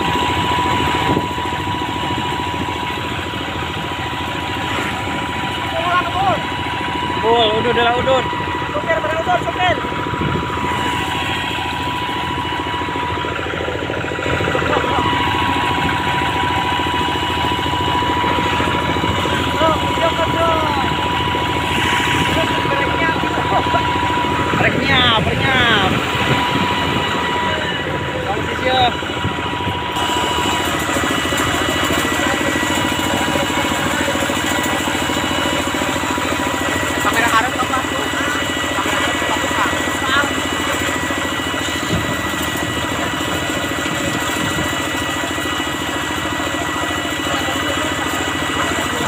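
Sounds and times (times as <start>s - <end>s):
diesel engine thumping: 0.0s - 49.0s.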